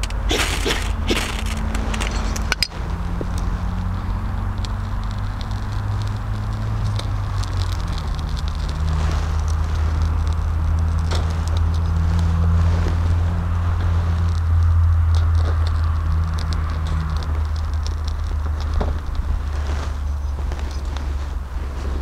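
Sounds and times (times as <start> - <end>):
fire crackling and ticking: 0.0 - 22.0
low engine drone: 0.0 - 22.0.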